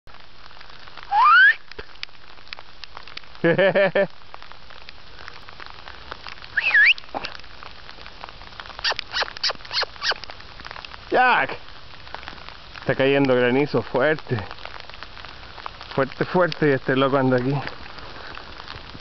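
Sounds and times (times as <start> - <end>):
hail falling hard: 0.1 - 19.0.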